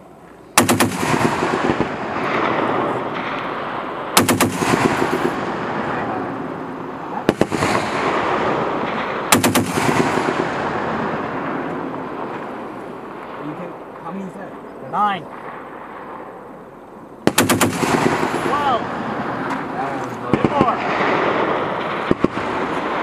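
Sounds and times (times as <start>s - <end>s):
rolling echo: 0.0s - 23.0s.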